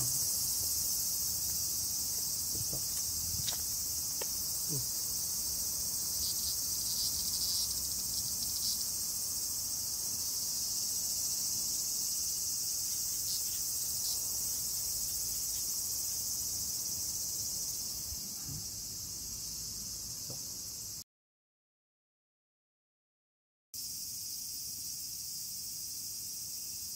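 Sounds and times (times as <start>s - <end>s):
cicadas buzzing: 0.0s - 21.0s, 23.8s - 26.9s.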